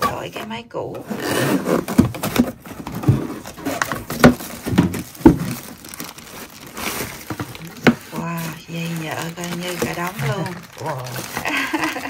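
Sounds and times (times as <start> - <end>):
cardboard scraping on cardboard: 1.0 - 11.5.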